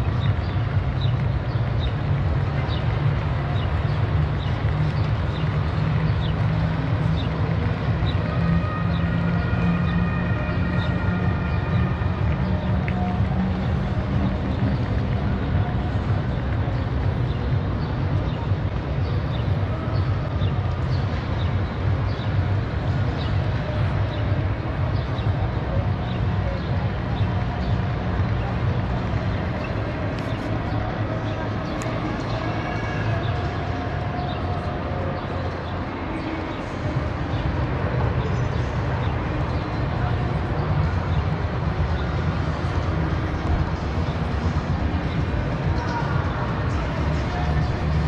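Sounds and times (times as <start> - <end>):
faint distant voices: 0.0 - 48.0.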